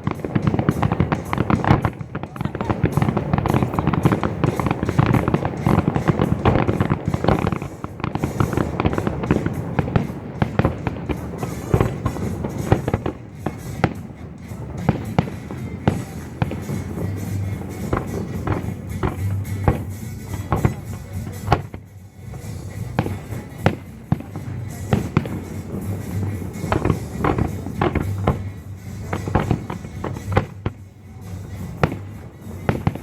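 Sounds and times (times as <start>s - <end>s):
fireworks bursting and crackling: 0.0s - 33.0s
jazz music: 0.0s - 33.0s.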